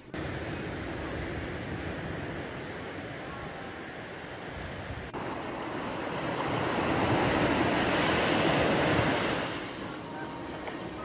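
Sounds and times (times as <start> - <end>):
surf washing over sand: 0.1 - 11.0.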